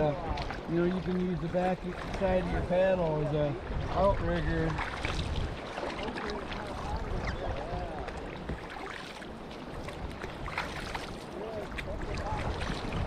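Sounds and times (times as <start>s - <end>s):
water splashing along a hull: 0.0s - 13.0s
wind buffeting microphone: 0.0s - 13.0s.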